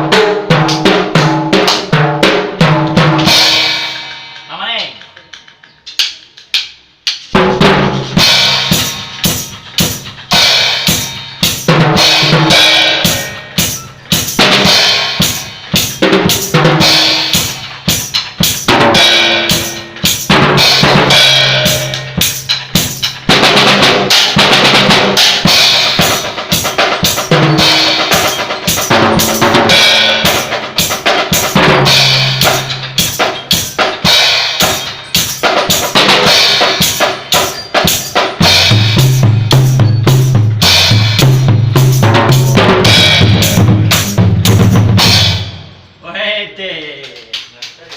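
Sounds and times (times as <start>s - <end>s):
drum kit beat: 0.0s - 46.1s.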